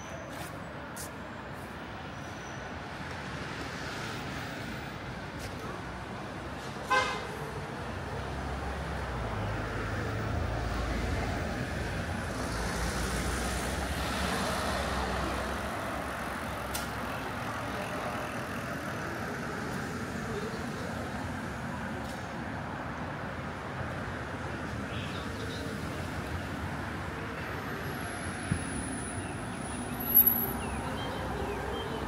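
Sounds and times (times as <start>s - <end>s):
steady traffic noise: 0.0s - 32.0s.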